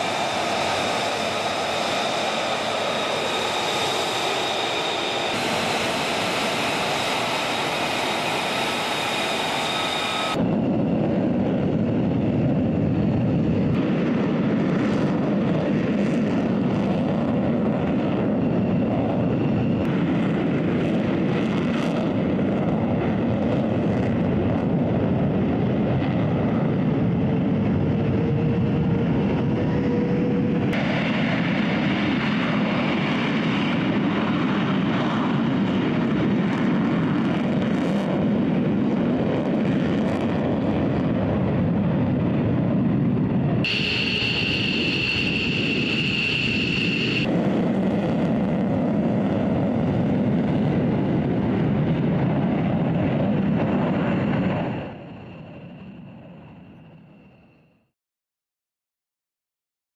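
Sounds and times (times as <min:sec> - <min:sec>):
high turbine whine: 0:00.0 - 0:39.5, 0:40.2 - 0:57.6
jet engines at takeoff power: 0:00.0 - 0:57.9.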